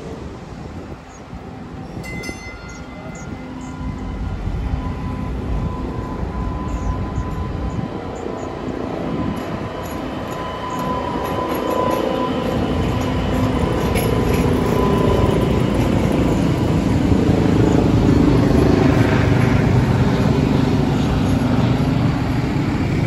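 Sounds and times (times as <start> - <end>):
light-rail train rumbling past: 0.0 - 23.0
train whine: 0.0 - 23.0.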